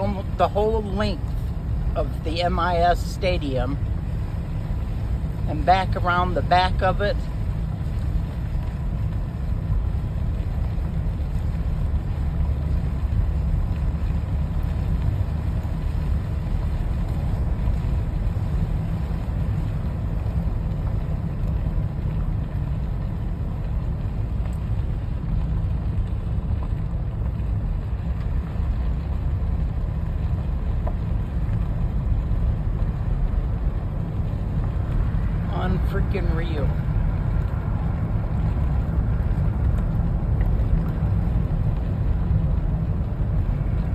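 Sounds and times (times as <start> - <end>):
vehicle road and engine rumble: 0.0 - 43.9.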